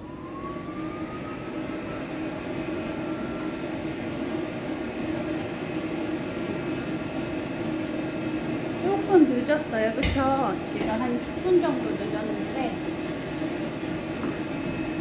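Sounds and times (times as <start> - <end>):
pet dryer blowing: 0.0 - 15.0.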